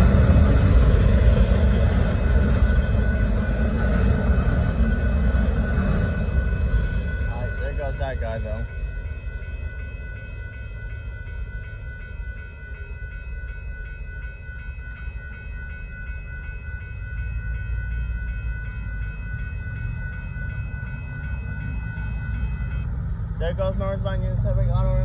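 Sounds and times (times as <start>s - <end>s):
crossing warning bell ringing: 0.0s - 25.0s
low rumble: 0.0s - 25.0s.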